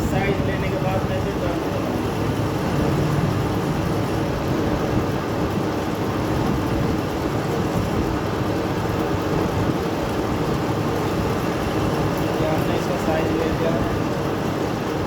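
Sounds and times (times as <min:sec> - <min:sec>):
lathe running: 0:00.0 - 0:09.3, 0:09.9 - 0:15.0.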